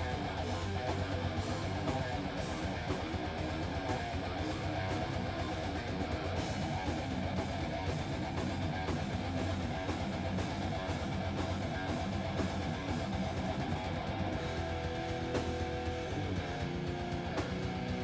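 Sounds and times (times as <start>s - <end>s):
bass guitar: 0.0s - 18.0s
drums: 0.0s - 18.0s
electric guitar: 0.0s - 18.0s.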